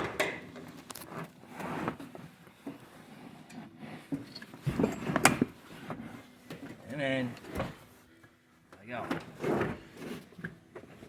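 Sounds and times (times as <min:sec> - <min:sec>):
rustling scrape: 0:00.7 - 0:08.1, 0:09.2 - 0:11.0.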